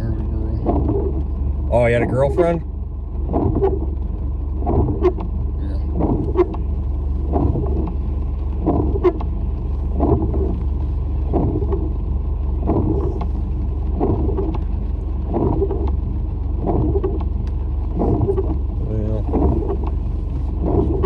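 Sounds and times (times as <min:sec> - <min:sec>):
road and engine noise: 0:00.0 - 0:21.0
windshield wipers sweeping: 0:00.0 - 0:21.0.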